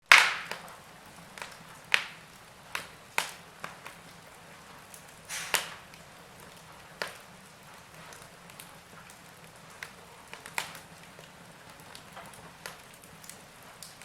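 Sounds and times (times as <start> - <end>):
faint steady hiss: 0.0 - 14.0
wood logs crackling in fireplace: 0.0 - 14.0.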